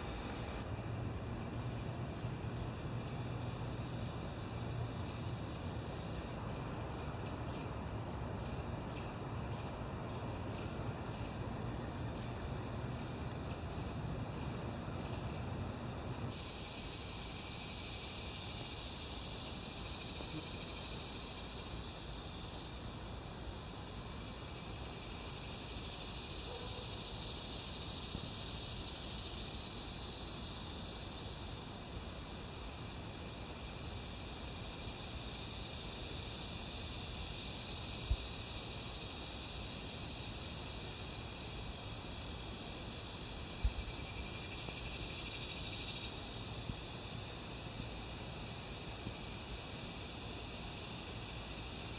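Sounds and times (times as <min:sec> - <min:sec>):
insect chorus buzzing: 0:00.0 - 0:51.9.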